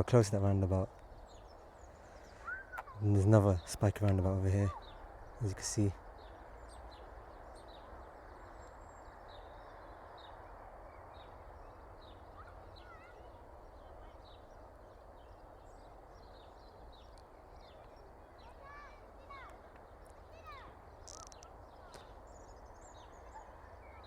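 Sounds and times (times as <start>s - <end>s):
small birds chirping: 0.0s - 24.0s
steady background hiss: 0.0s - 24.0s.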